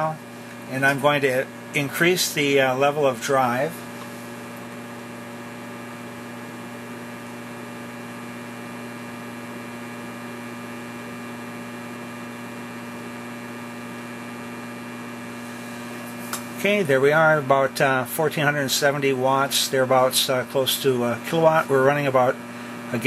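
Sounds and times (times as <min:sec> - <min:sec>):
mains hum with hiss: 0:00.0 - 0:23.0.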